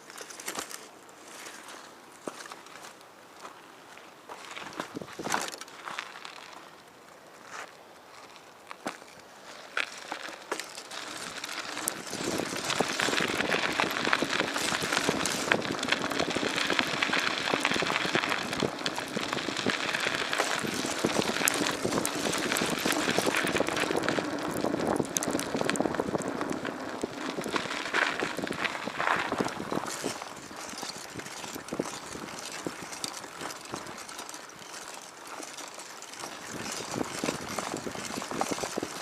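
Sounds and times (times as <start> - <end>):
footsteps crunching on dry ground: 0.0 - 39.0.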